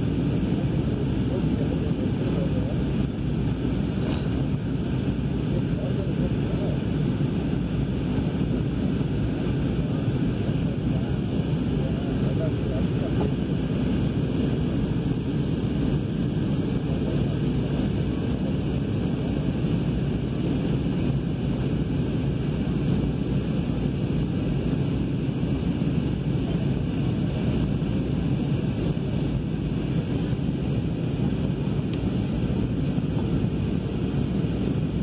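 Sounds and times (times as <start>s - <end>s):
airliner cabin noise: 0.0s - 35.0s.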